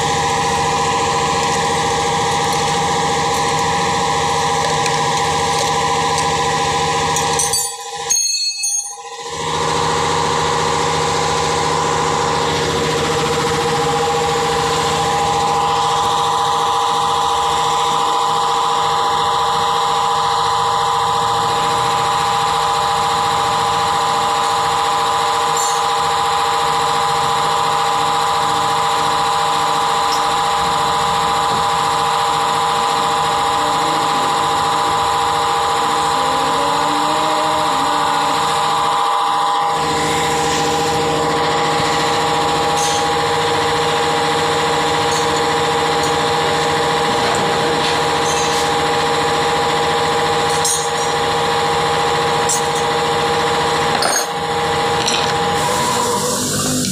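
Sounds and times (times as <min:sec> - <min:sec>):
milling machine boring metal: 0:00.0 - 0:56.9.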